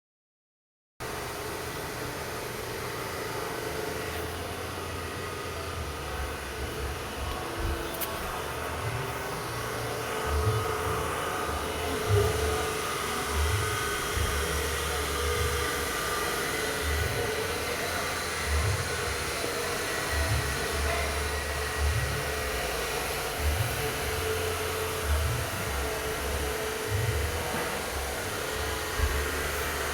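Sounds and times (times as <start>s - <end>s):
compression tester motor whirring: 1.4s - 29.9s.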